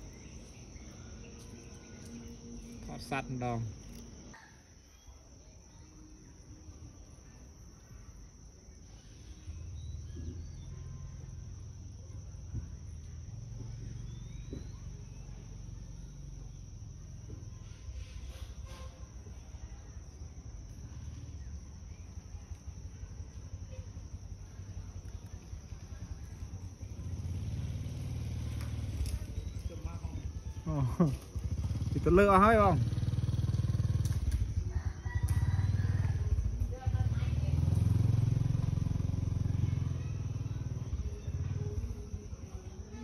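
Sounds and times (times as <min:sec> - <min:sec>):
high-pitched insect drone: 0:00.0 - 0:43.0.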